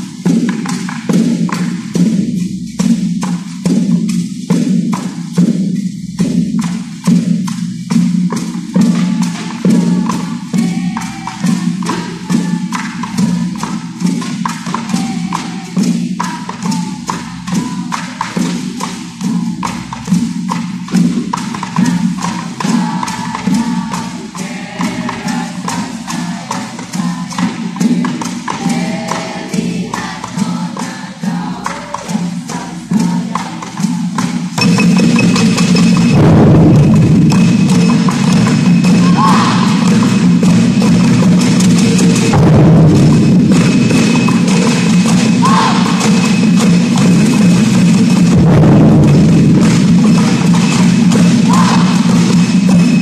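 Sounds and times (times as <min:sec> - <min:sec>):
drum ensemble playing: 0:00.0 - 0:53.0.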